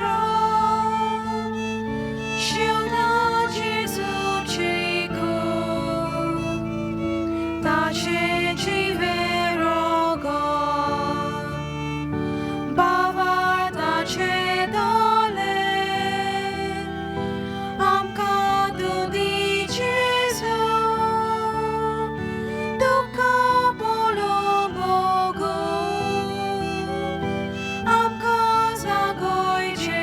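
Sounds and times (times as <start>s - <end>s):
hymn singing: 0.0s - 30.0s
sustained keyboard chords: 0.0s - 30.0s.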